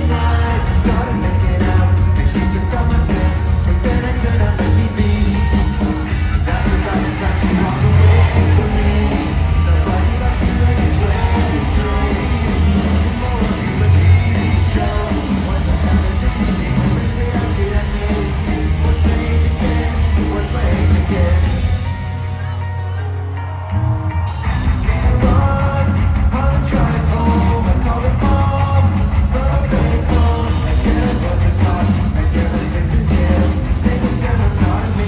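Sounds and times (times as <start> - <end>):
crowd yelling and singing along: 0.0 - 35.0
live rock band with vocals: 0.0 - 35.0.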